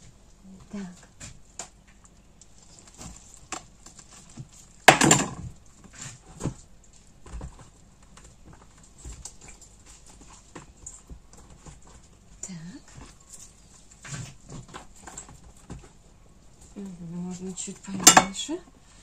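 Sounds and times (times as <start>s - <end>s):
light knocks and rustles: 0.6s - 18.2s.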